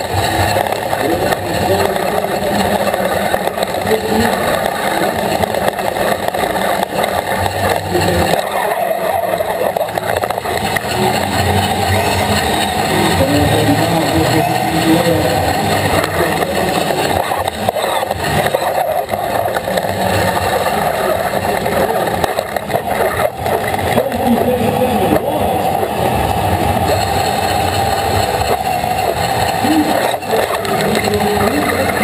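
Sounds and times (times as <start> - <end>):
electric motors and gearboxes running: 0.0 - 32.0.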